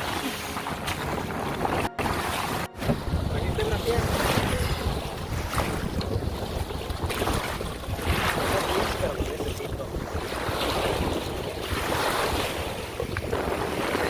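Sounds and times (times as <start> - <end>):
choppy lake water: 0.0 - 14.0
wind buffeting microphone: 0.0 - 14.0.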